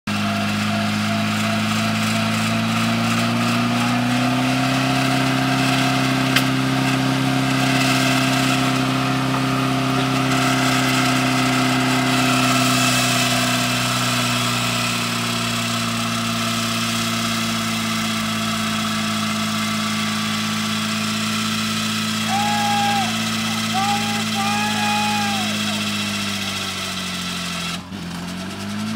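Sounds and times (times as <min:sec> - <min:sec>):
tire spinning in place: 0:00.0 - 0:28.9
truck engine revving high: 0:00.0 - 0:28.9.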